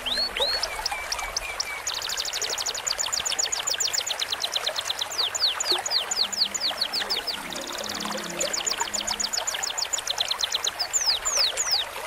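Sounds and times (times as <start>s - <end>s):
recorded bird song: 0.0s - 12.0s
running water: 0.0s - 12.0s.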